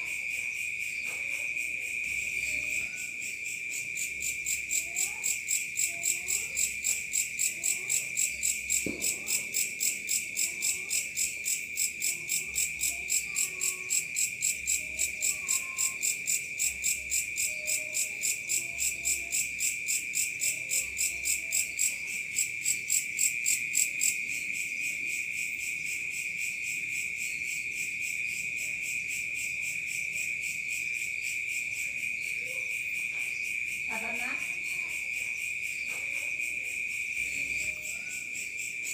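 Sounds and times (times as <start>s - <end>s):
cricket pulsing chirp: 0.0s - 24.3s, 25.3s - 38.9s
insects trilling: 0.0s - 38.9s.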